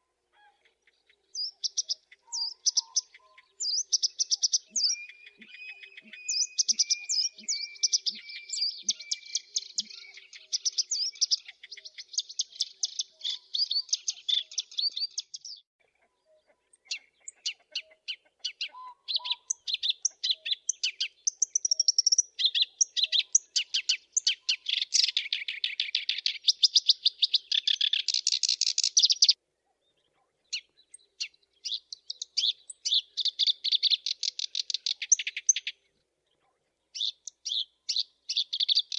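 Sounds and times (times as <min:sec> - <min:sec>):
reed warbler singing: 0:01.0 - 0:15.7, 0:16.7 - 0:29.4, 0:30.0 - 0:35.8, 0:36.9 - 0:38.9.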